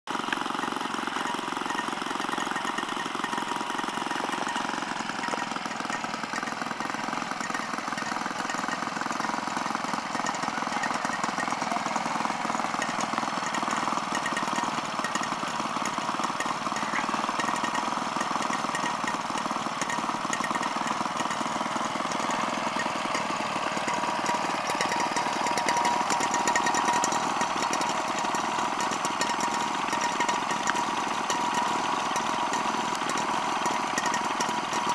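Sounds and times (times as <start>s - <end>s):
old stationary engines running: 0.1s - 34.9s.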